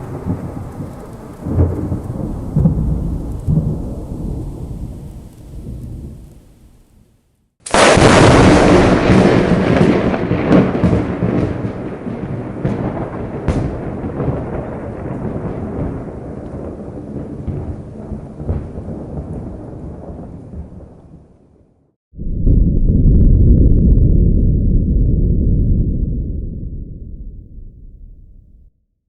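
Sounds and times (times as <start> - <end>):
thunder crack and rolling rumble: 0.0 - 7.0, 7.7 - 28.7.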